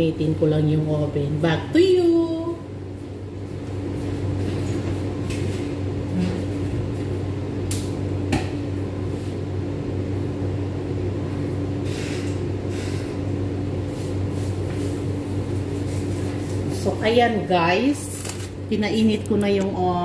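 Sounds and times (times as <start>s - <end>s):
kitchen appliance hum: 0.0s - 20.0s.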